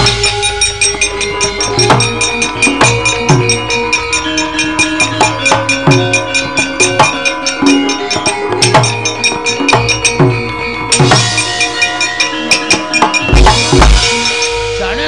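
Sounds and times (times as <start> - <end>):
drum strokes: 0.0 - 15.0
gamelan playing: 0.0 - 15.0.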